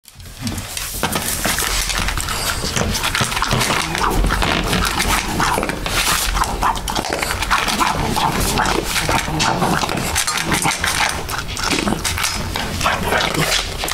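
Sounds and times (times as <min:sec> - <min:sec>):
dog crunching and chewing food: 0:00.0 - 0:13.9.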